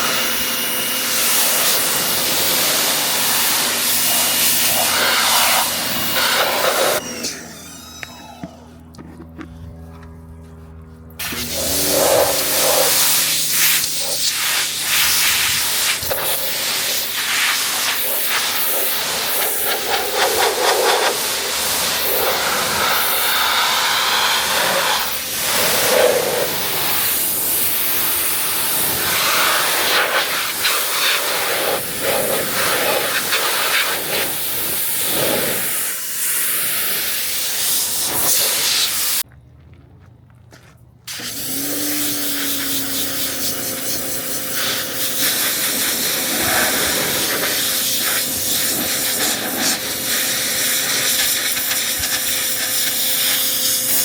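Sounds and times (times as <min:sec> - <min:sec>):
pressure washer spraying: 0:00.0 - 0:08.0, 0:11.2 - 0:39.2, 0:41.1 - 0:54.0.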